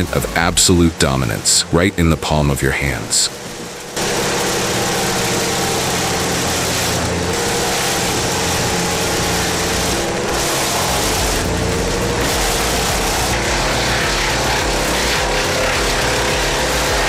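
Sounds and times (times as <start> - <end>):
constant hiss: 0.0 - 16.4
diesel engine running: 0.0 - 17.0.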